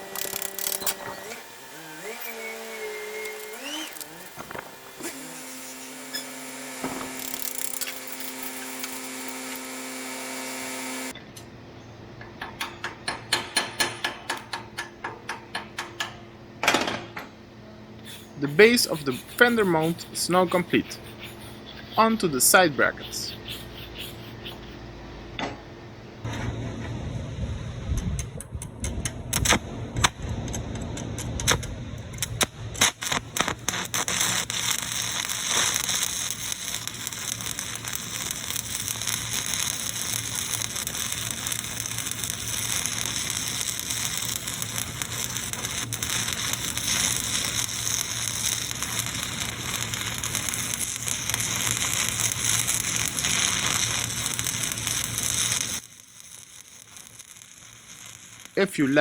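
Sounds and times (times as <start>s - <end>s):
welding arc crackling: 0.0s - 11.2s, 18.0s - 24.8s, 27.5s - 59.0s
low electrical hum: 0.0s - 59.0s.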